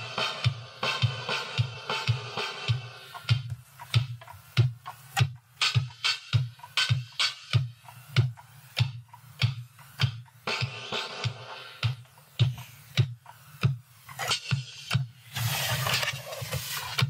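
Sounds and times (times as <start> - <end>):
drum machine beat: 0.0 - 17.0.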